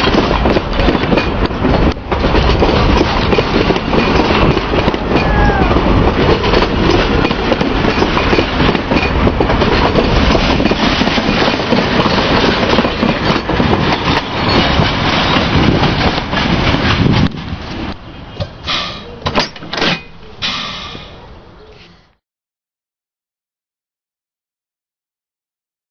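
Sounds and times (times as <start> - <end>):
train wheels running over rails: 0.0 - 21.3.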